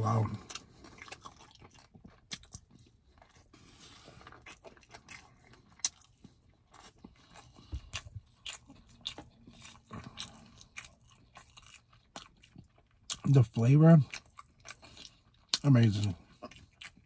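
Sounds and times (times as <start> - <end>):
chewing rice: 0.0 - 17.0.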